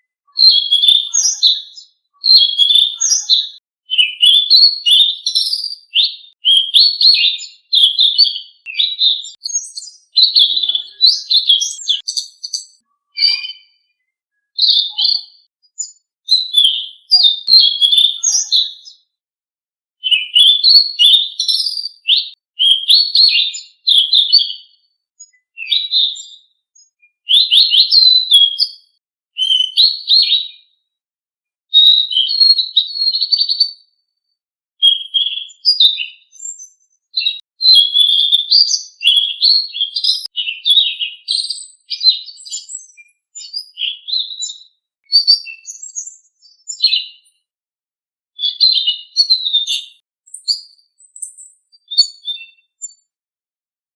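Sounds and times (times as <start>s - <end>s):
songbird chirping and whistling: 0.0s - 19.1s, 20.0s - 30.7s, 31.8s - 33.9s, 34.8s - 47.3s, 48.4s - 53.0s.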